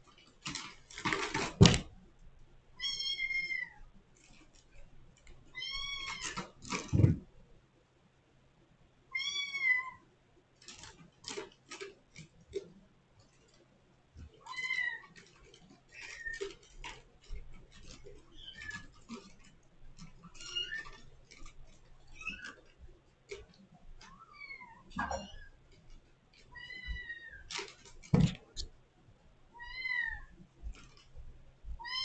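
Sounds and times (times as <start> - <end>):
claws clicking and scratching: 0.0 - 3.0, 3.9 - 7.2, 10.5 - 28.8, 30.3 - 31.5.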